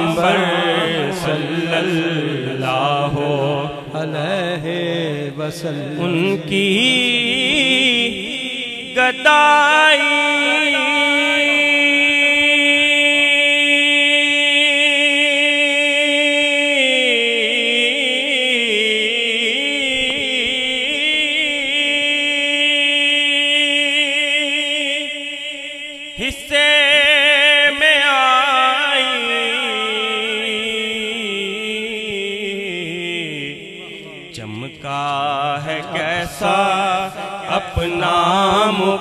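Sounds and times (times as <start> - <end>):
man singing into microphone: 0.0 - 39.0.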